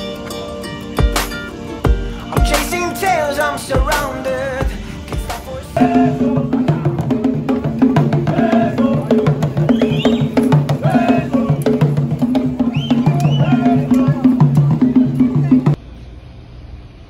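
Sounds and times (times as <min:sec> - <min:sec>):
parade drumming: 0:01.0 - 0:15.8
voices chanting and calling: 0:02.0 - 0:15.8.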